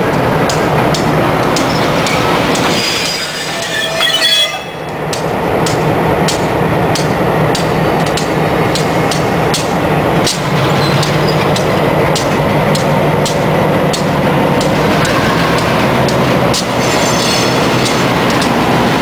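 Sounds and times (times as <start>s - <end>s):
locomotive diesel engines running: 0.0s - 19.0s
wheels clicking on track: 0.0s - 19.0s.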